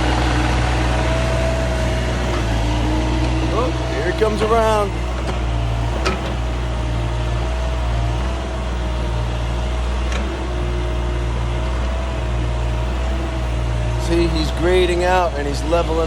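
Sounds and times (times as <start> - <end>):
excavator diesel engine running: 0.0 - 16.0
high engine whine: 0.0 - 16.0.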